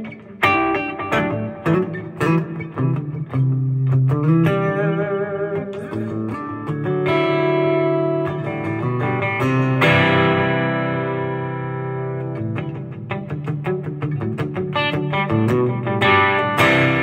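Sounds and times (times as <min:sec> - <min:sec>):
electric guitar chord ringing: 0:00.0 - 0:17.0
electric guitar single notes: 0:00.0 - 0:17.0.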